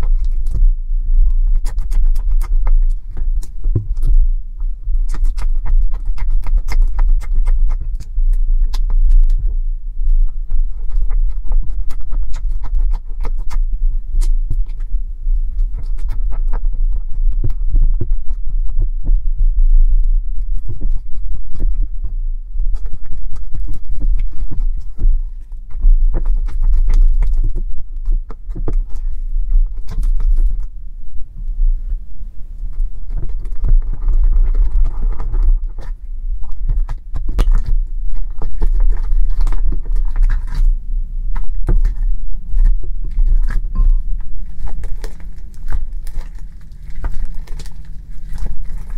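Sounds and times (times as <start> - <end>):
slime stirred with spatula: 0.0 - 30.8, 31.9 - 48.9
fingers kneading slime: 0.0 - 48.9.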